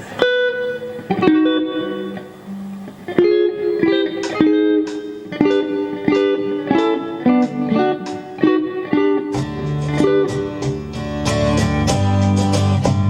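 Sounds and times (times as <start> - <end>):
guitar playing: 0.0 - 13.0.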